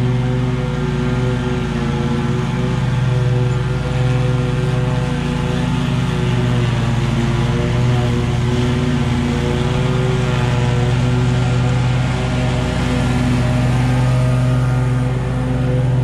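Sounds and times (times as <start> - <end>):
mower engine running: 0.0 - 16.0.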